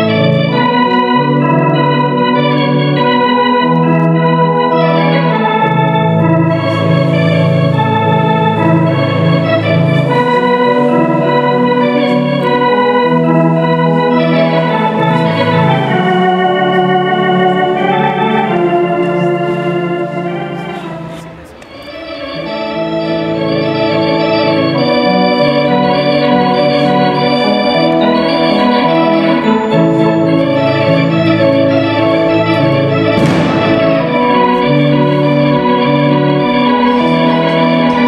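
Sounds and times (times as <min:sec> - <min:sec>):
organ playing held chords: 0:00.0 - 0:38.0.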